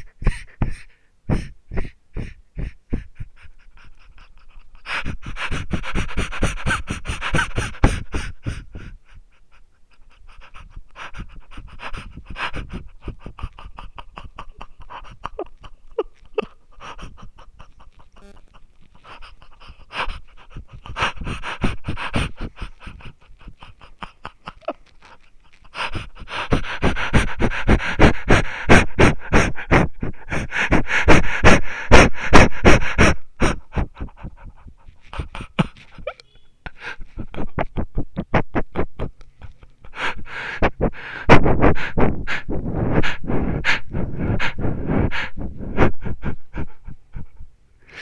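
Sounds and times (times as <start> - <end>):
rapid panting breaths: 0.0 - 48.0.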